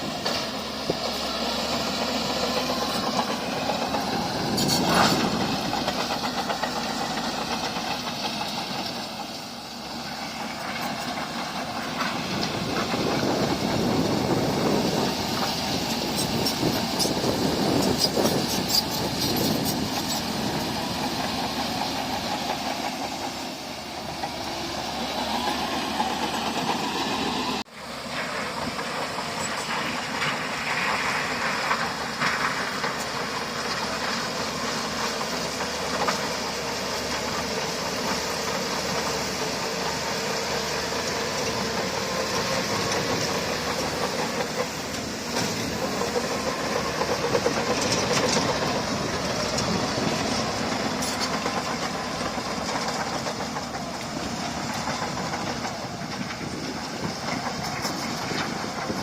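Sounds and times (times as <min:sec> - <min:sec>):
bulldozer diesel engine: 0:00.0 - 0:59.0
steel tracks clanking: 0:00.0 - 0:59.0.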